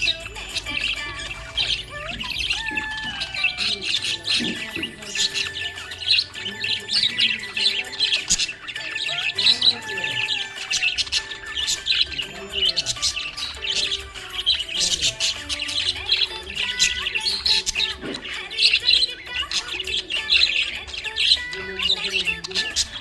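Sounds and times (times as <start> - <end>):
budgerigars chirping: 0.0 - 23.0.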